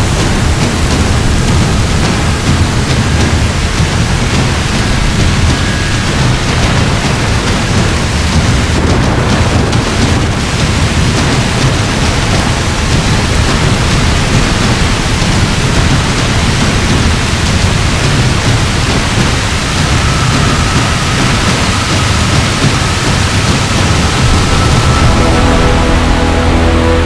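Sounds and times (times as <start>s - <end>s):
deep thunder rumble: 0.0s - 27.0s
heavy rain pouring: 0.0s - 27.0s.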